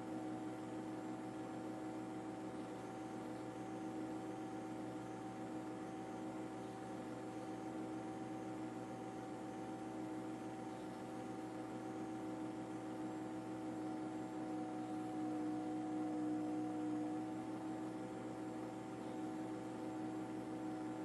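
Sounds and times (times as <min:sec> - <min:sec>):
mechanical drone with held tones: 0:00.0 - 0:21.0.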